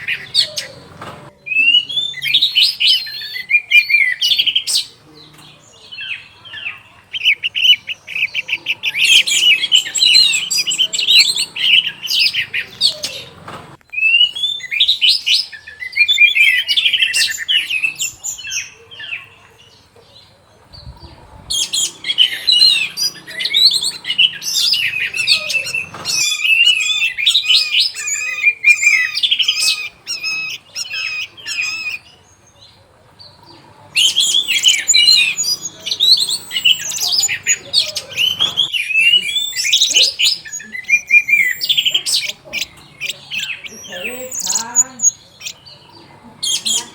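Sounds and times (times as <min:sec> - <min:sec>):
thrush singing: 0:00.0 - 0:19.0, 0:20.6 - 0:46.9.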